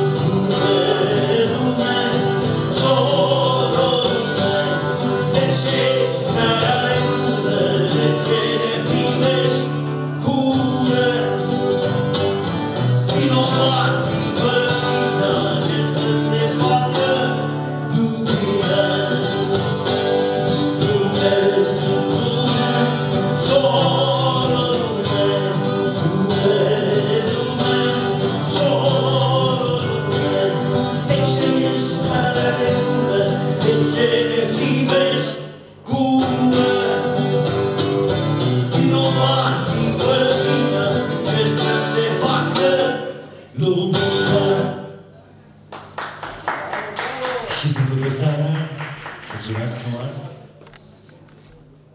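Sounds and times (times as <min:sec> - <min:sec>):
man singing: 0:00.0 - 0:12.0, 0:13.0 - 0:45.0
strummed acoustic guitar: 0:00.0 - 0:46.0.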